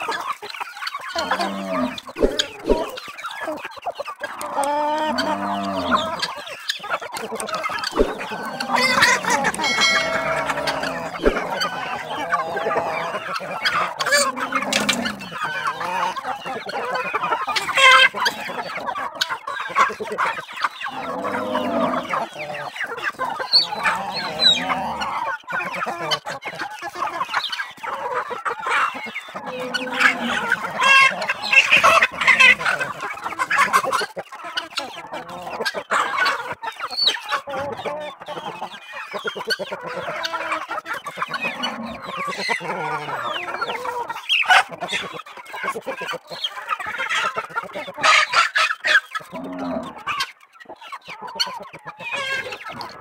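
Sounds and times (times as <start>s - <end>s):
chickens and guineafowl clucking: 0.0s - 53.0s.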